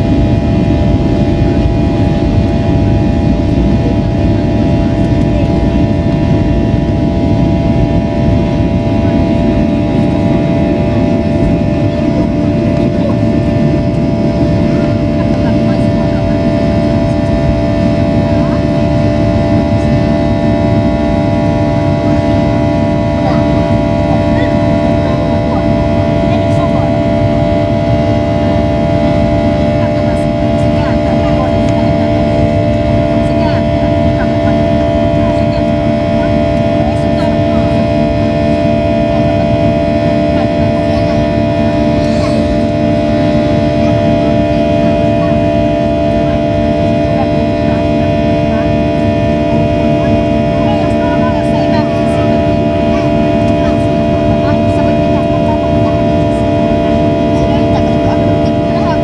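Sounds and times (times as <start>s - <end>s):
airliner engines droning: 0.0s - 59.0s.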